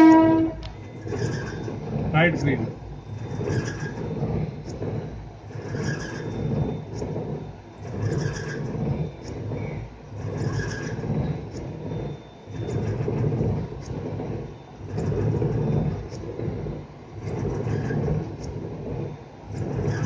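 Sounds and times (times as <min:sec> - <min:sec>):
train cab rumble: 0:00.0 - 0:20.0.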